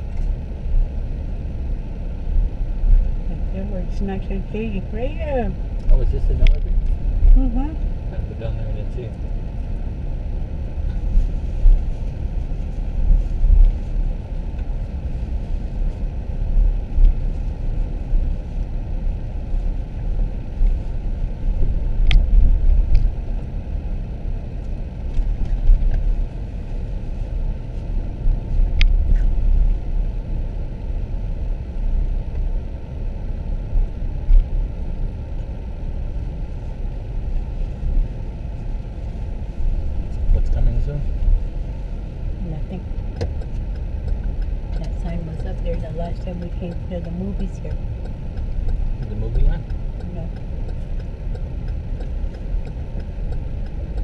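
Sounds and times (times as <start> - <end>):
car rumble inside cabin: 0.0 - 54.0.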